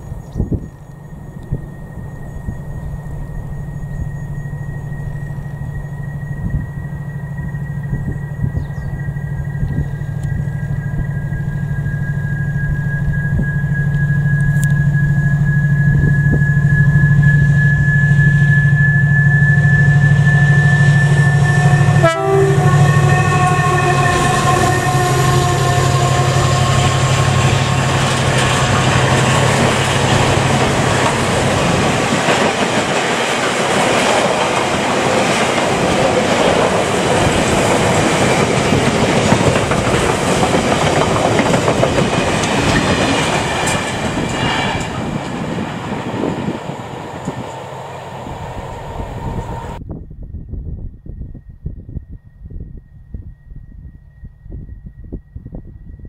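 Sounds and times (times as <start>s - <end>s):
diesel locomotive engine whine: 0.0s - 56.0s.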